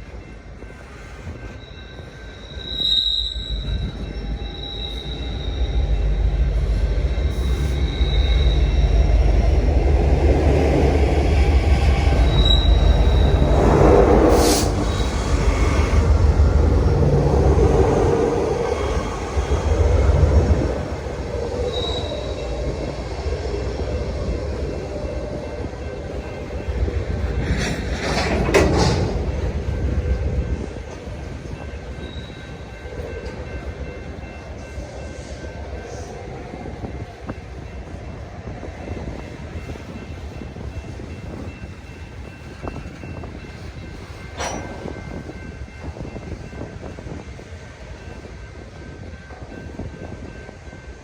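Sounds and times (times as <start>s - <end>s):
train cars rumbling past: 0.0s - 51.0s
train clattering: 0.0s - 51.0s
train wheel squeals: 0.0s - 51.0s.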